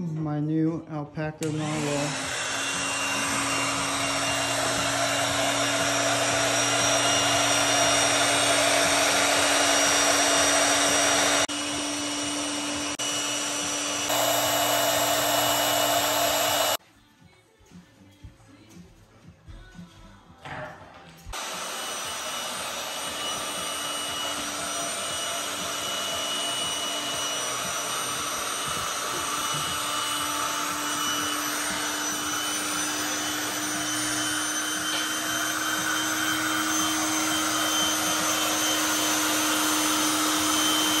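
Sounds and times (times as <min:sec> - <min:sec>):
electric air pump running: 0:01.4 - 0:16.8, 0:21.3 - 0:41.0.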